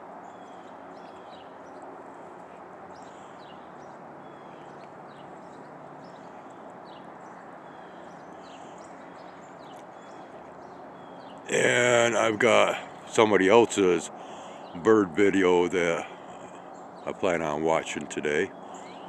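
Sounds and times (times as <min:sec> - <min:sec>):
low background rush: 0:00.0 - 0:19.0
songbirds chip notes: 0:00.2 - 0:19.0.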